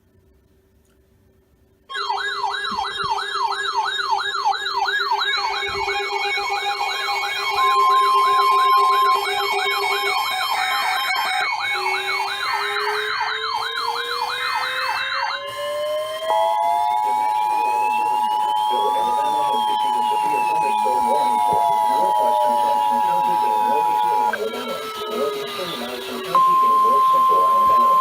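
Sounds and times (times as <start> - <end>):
high siren warble: 1.9 - 28.0
siren wail: 1.9 - 28.0
siren yelp: 1.9 - 28.0.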